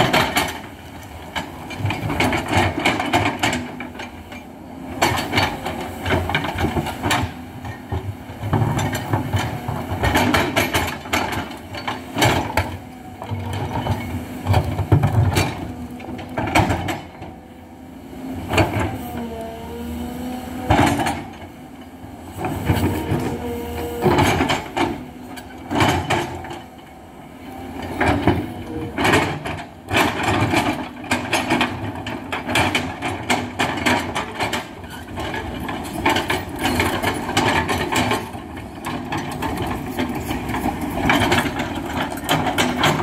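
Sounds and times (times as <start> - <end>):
excavator engine and hydraulics: 0.0 - 43.0.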